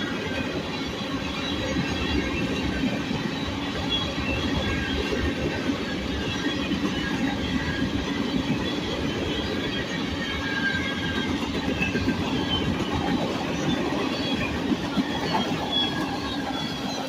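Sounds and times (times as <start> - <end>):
train cars rolling past: 0.0 - 17.0.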